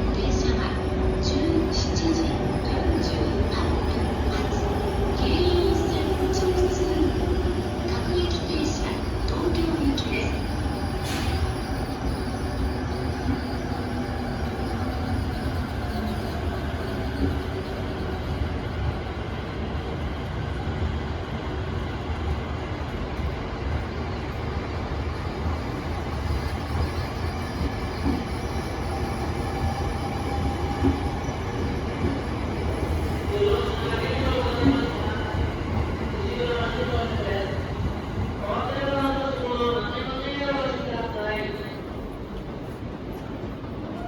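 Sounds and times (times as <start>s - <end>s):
train rumbling on rails: 0.0s - 44.0s.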